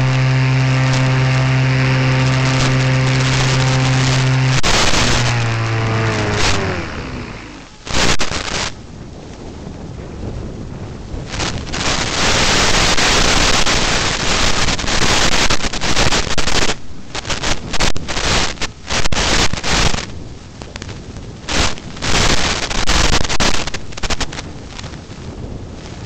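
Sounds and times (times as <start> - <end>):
radio interference hiss and crackle: 0.0 - 9.5, 11.1 - 26.0.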